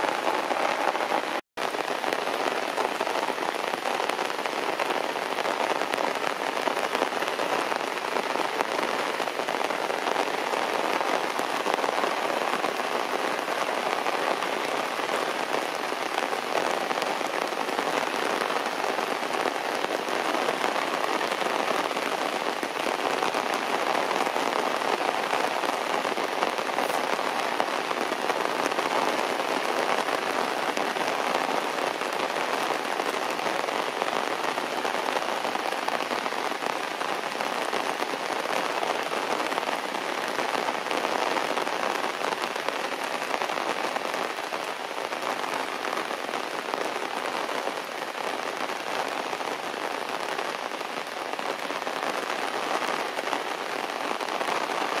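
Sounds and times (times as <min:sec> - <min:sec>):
heavy rain on plants: 0:00.0 - 0:55.0.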